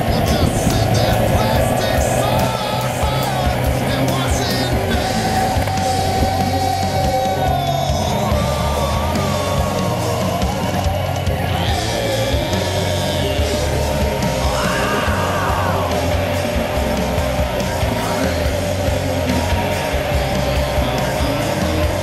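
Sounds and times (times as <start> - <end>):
heavy rock music with singing: 0.0 - 22.0.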